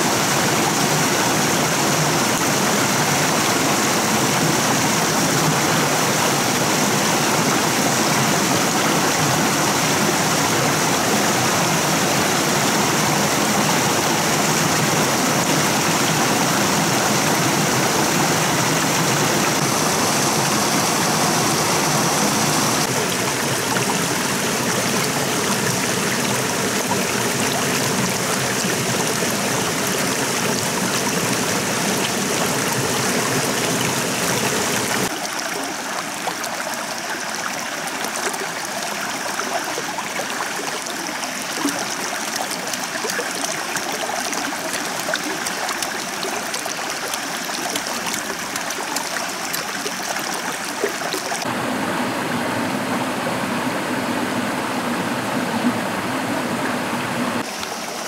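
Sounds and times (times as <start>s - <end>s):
flowing stream: 0.0s - 58.0s.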